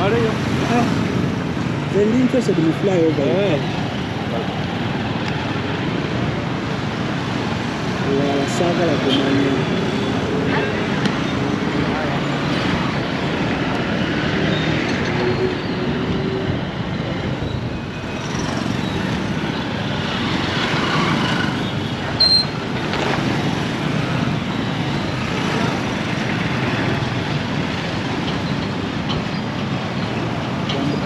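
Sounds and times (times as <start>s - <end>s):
city road traffic: 0.0s - 31.0s.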